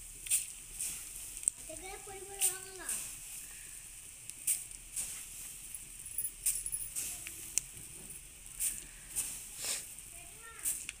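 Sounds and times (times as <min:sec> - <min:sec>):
puffed rice rustling: 0:00.0 - 0:11.0.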